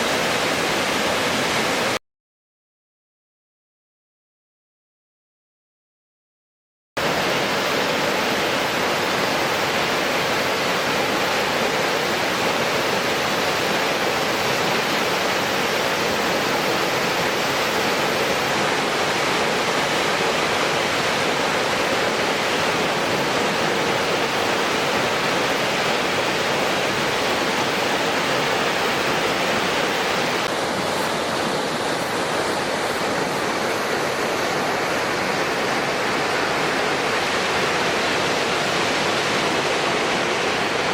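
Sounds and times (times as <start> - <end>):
waterfall rushing: 0.0 - 2.0, 7.0 - 40.9.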